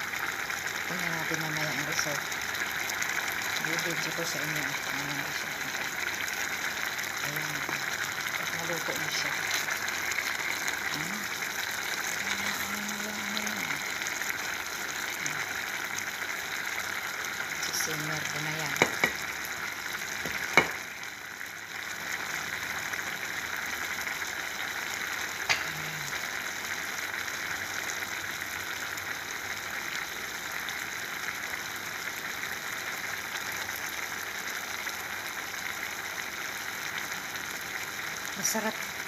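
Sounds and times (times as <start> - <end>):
pot bubbling at a simmer: 0.0 - 39.0.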